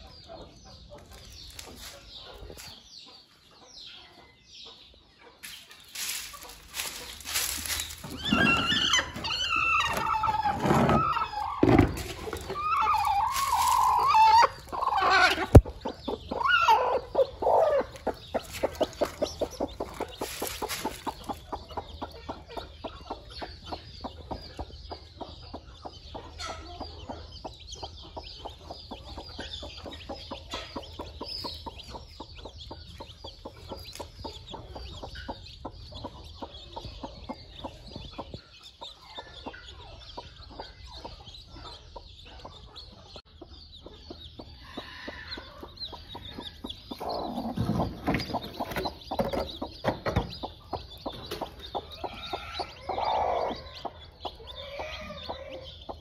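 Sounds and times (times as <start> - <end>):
chicks peeping: 0.0 - 56.0
hen clucking: 0.0 - 56.0.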